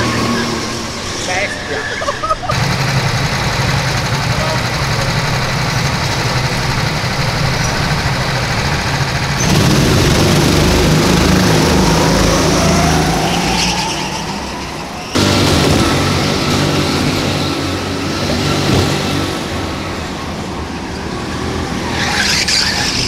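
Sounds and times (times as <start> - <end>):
go-kart engines idling and revving: 0.0 - 23.0.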